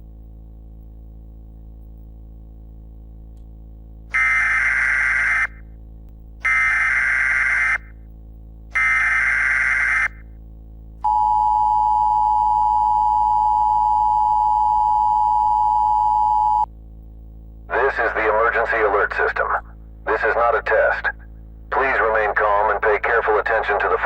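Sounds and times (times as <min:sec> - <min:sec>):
low steady hum: 0:00.0 - 0:24.0
long steady attention tone: 0:03.8 - 0:24.0.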